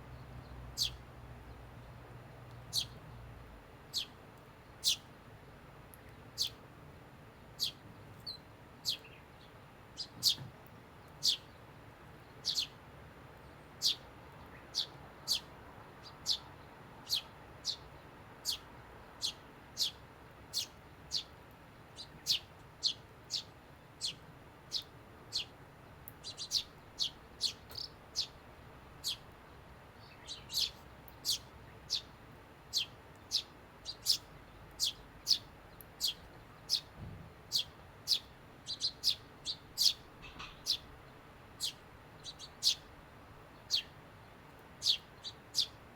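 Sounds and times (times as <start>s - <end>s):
sparrows chirping: 0.0s - 3.3s, 3.9s - 5.2s, 5.9s - 6.7s, 7.3s - 45.9s.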